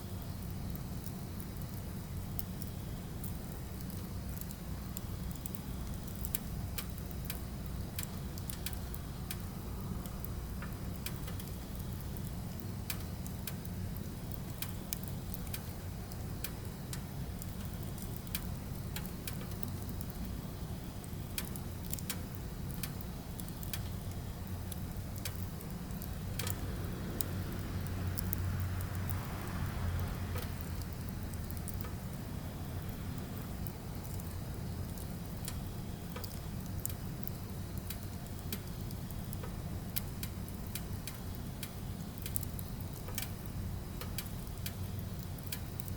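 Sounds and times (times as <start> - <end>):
firewood crackling and popping: 0.0 - 45.9
low rumble of flame: 0.0 - 45.9.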